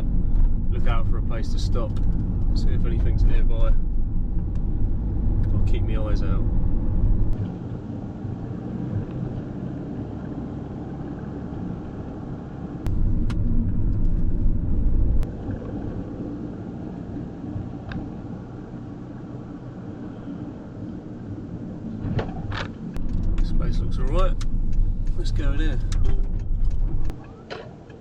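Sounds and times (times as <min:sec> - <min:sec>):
van road and engine rumble: 0:00.0 - 0:28.0.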